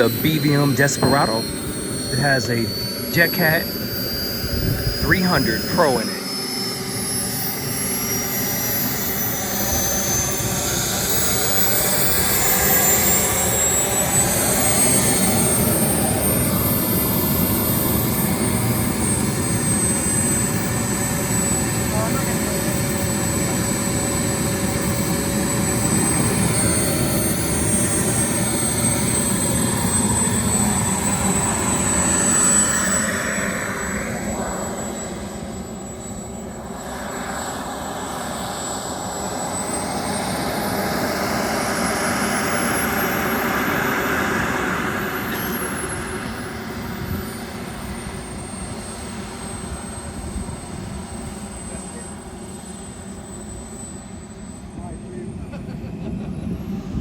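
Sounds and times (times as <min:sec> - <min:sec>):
jet turbine whine and roar: 0:00.0 - 0:57.0.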